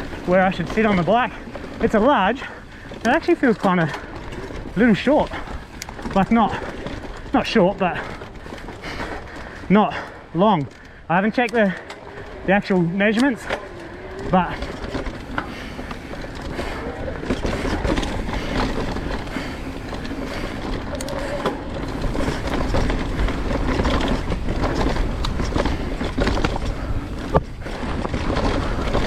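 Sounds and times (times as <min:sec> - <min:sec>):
bike rattling and knocking: 0:00.0 - 0:29.0.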